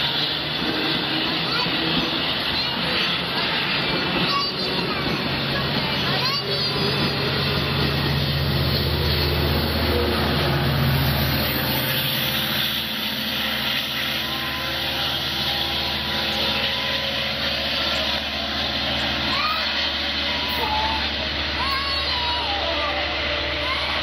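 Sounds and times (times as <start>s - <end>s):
diesel locomotive engine drone: 0.0s - 24.0s
train rumbling: 0.0s - 24.0s.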